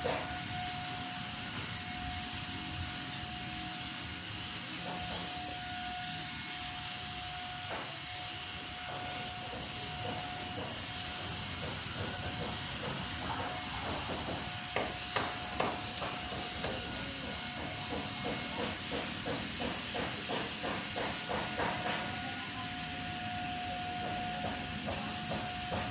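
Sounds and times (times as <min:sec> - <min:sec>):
paint sprayer hissing: 0:00.0 - 0:25.9.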